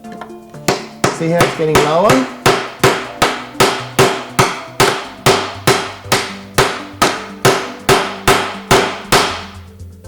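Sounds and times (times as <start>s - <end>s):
toy hammer banging: 0.6s - 9.6s.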